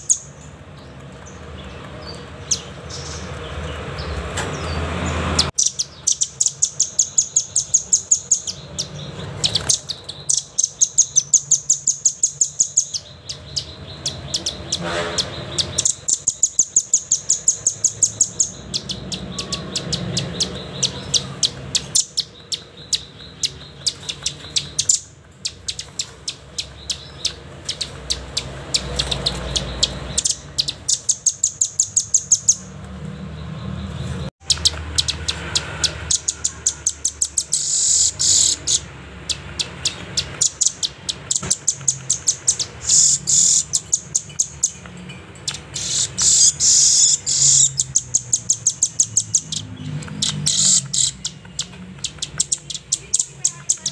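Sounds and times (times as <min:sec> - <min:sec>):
bird chipping calls: 0:00.0 - 0:53.9.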